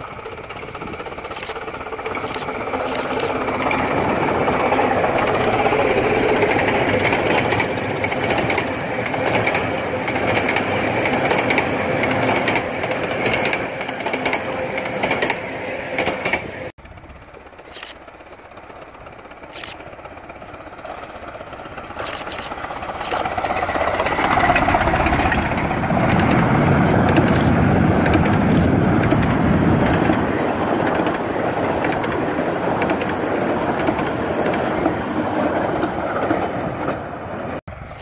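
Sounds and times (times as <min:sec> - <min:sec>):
miniature steam train passing: 0:00.0 - 0:38.0.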